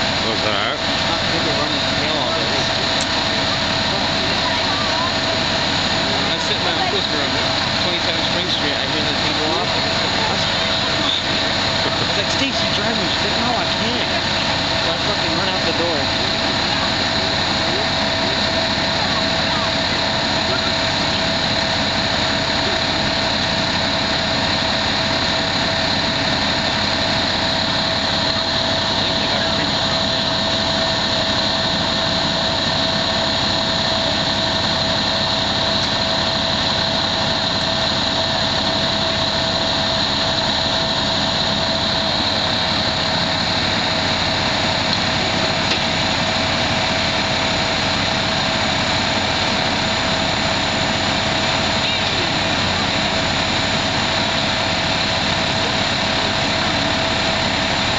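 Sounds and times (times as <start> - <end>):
engine whine: 0.0 - 57.9
fire engine engine droning: 0.0 - 57.9.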